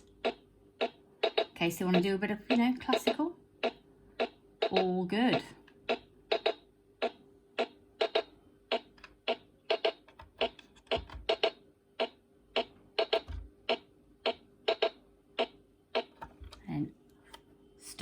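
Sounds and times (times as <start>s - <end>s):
steady held keyboard tone: 0.0s - 18.0s.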